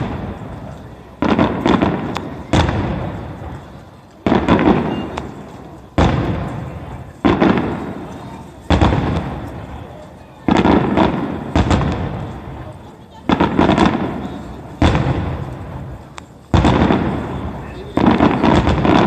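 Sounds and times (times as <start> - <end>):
fireworks booming: 0.0 - 19.0
fireworks crackle: 0.0 - 19.0.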